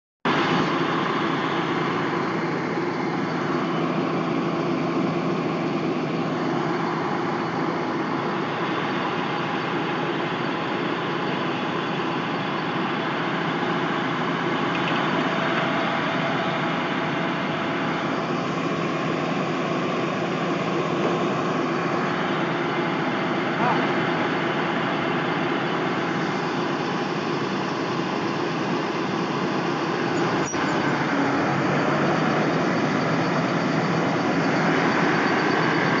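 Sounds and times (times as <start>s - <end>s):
combine harvester droning: 0.3s - 36.0s.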